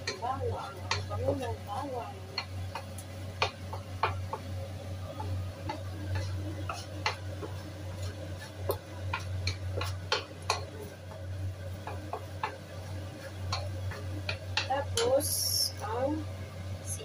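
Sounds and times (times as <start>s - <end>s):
wooden spatula tapping a pan: 0.0s - 15.8s.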